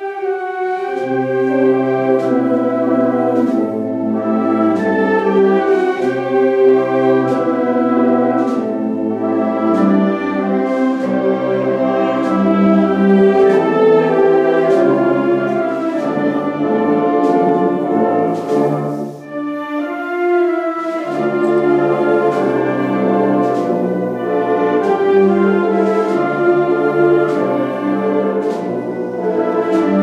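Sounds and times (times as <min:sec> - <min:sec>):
wind band playing slow march: 0:00.0 - 0:30.0.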